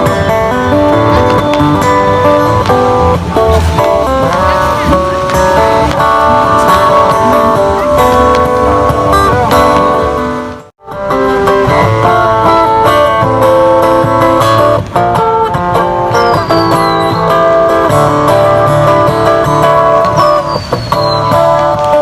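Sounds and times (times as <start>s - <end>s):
fingerstyle acoustic guitar: 0.0s - 22.0s.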